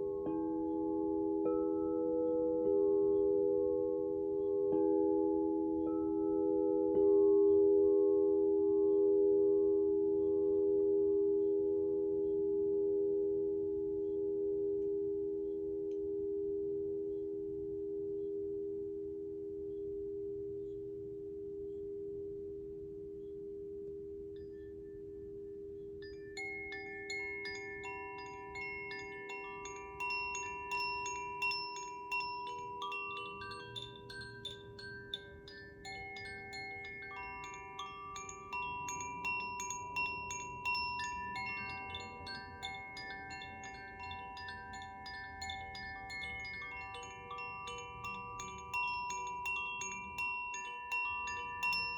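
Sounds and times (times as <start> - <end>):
tinkling chimes: 0.0 - 10.9, 19.6 - 51.9
singing bowls ringing: 0.0 - 14.4, 24.2 - 51.9.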